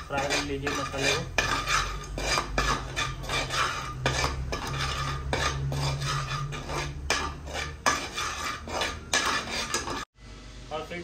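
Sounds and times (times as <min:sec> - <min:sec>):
metal spoon scraping pan: 0:00.0 - 0:10.1.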